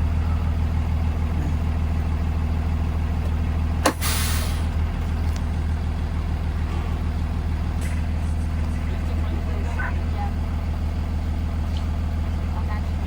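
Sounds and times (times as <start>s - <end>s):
bus engine drone: 0.0s - 13.0s.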